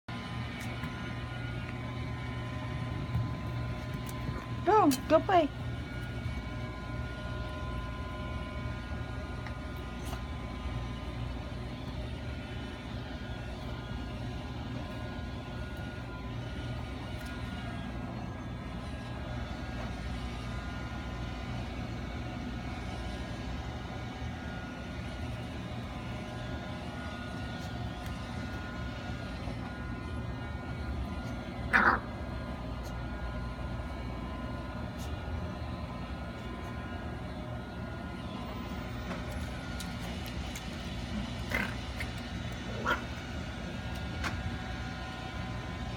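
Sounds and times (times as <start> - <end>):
low mechanical hum: 0.1 - 45.9.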